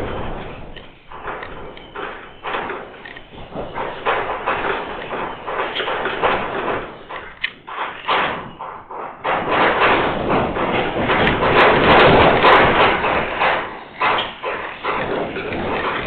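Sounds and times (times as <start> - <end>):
doors and objects rattling: 0.0 - 16.0
earthquake rumble: 0.0 - 16.0.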